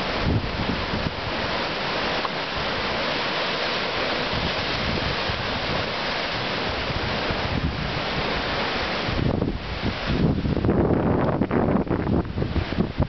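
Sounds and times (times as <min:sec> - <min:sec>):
wind buffeting microphone: 0:00.0 - 0:02.9, 0:04.0 - 0:13.0
surf rushing between rocks: 0:00.0 - 0:13.0.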